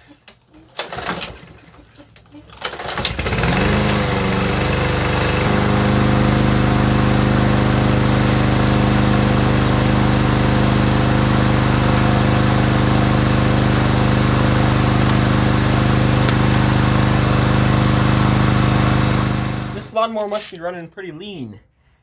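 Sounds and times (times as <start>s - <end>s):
lawnmower engine running: 0.7s - 1.8s, 2.5s - 20.2s.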